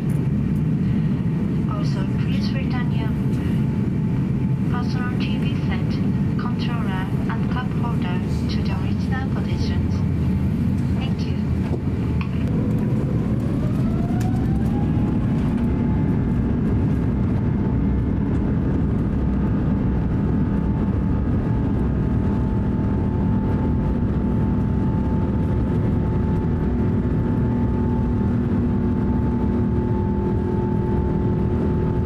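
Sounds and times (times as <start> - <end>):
jet engines spooling up: 0.0 - 32.0
loud rumble of takeoff roll: 0.0 - 32.0.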